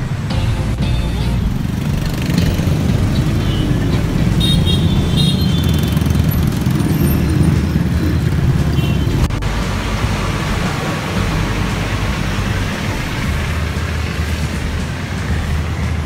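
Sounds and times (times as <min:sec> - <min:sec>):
slow road traffic rumble: 0:00.0 - 0:16.0.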